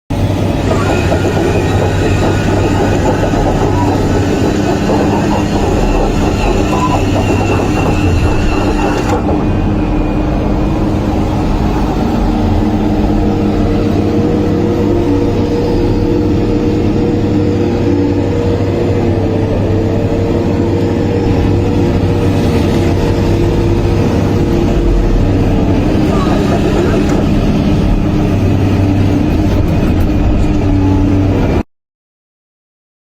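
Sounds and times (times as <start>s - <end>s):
machinery mechanical drone: 0.1s - 31.6s.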